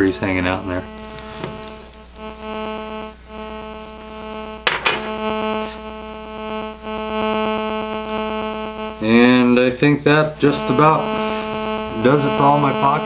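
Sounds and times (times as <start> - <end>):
buzzy electrical hum: 0.0 - 13.0.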